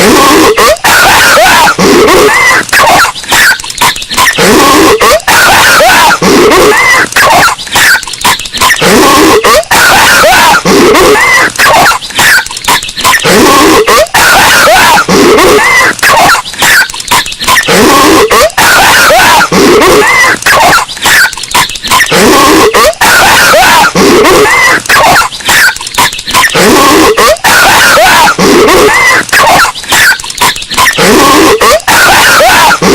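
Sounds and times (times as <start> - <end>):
distorted cartoon voice coughing: 0.0 - 32.9.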